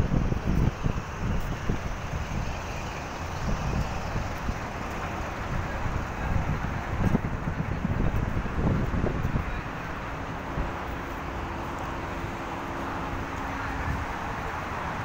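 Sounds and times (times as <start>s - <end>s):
highway traffic rushing: 0.0s - 15.0s
wind rumbling on microphone: 0.0s - 15.0s.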